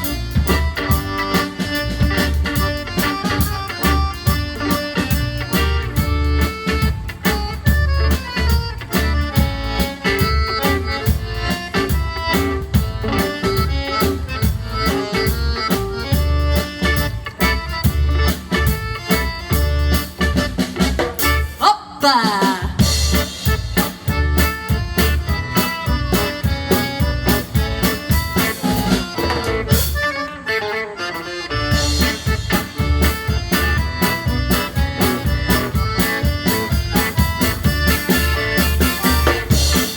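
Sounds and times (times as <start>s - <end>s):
accordion: 0.0s - 39.9s
guitar: 0.0s - 39.9s
live band playing dance tune: 0.0s - 39.9s.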